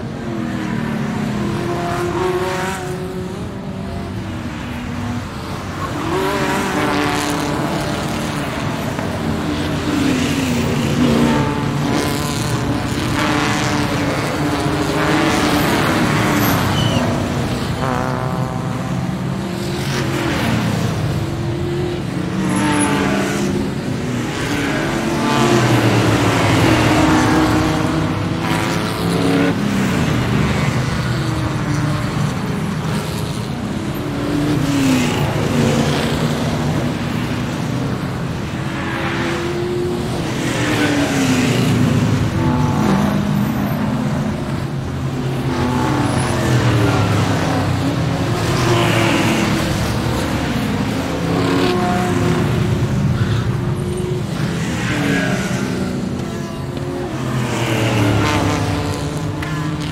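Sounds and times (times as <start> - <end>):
racing car engines revving and passing: 0.0 - 59.9.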